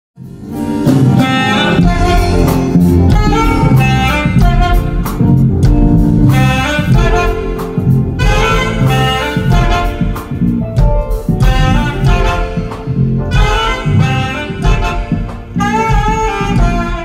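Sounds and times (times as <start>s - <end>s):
band with bass and beat: 0.2s - 17.0s
saxophones playing gospel melody: 0.4s - 17.0s.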